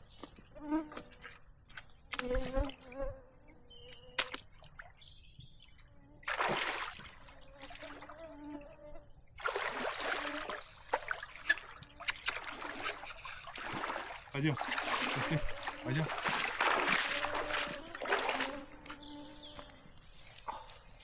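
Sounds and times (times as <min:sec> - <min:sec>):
water splashing and sloshing: 0:00.0 - 0:02.9, 0:04.0 - 0:08.2, 0:09.2 - 0:21.0.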